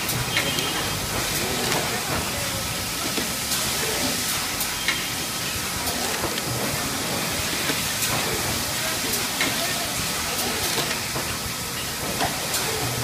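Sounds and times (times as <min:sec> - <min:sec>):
hiss of air and machine noise: 0:00.0 - 0:13.0.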